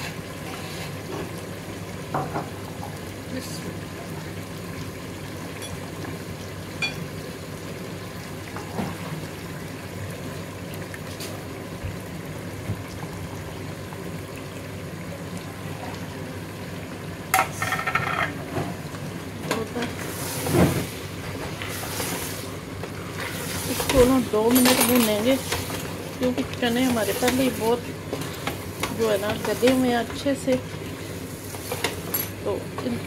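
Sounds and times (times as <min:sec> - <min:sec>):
food sizzling in pressure cooker: 0:00.0 - 0:33.0.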